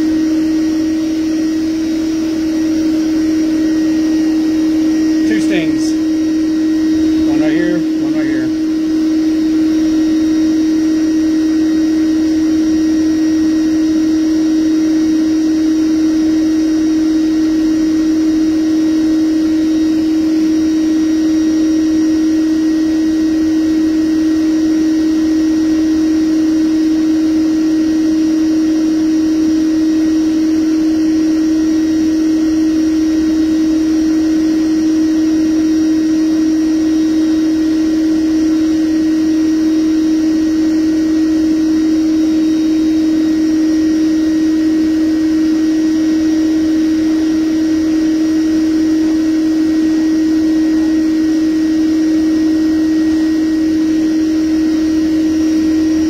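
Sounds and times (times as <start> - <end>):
bee vacuum humming: 0.0 - 56.0.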